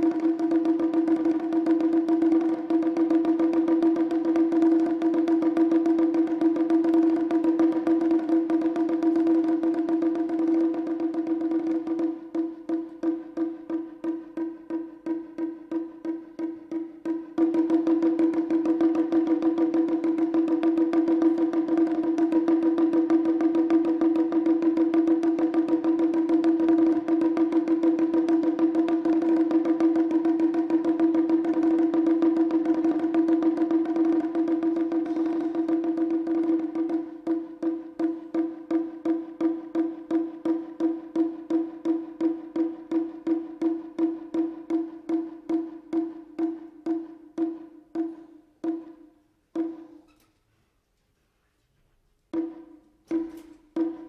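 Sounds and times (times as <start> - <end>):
taiko drum roll and strokes: 0.0 - 50.2, 52.3 - 54.0.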